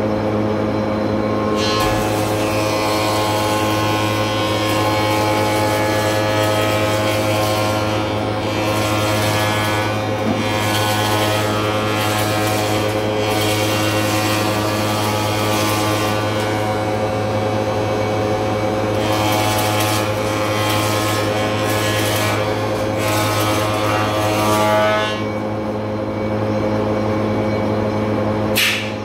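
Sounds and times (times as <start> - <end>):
spindle moulder machine drone: 0.0 - 29.0.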